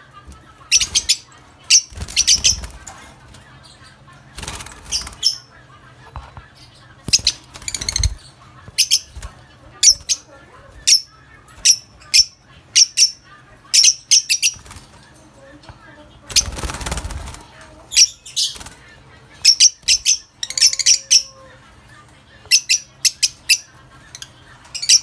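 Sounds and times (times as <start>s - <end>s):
lovebirds chirping shrilly: 0.6s - 5.6s, 7.0s - 15.0s, 16.2s - 25.0s.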